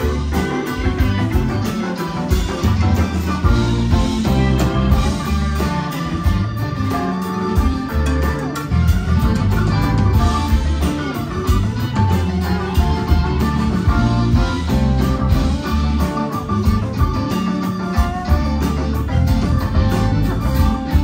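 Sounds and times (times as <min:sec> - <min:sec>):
bass guitar: 0:00.0 - 0:21.0
drum kit beat: 0:00.0 - 0:21.0
electric guitar: 0:00.0 - 0:21.0.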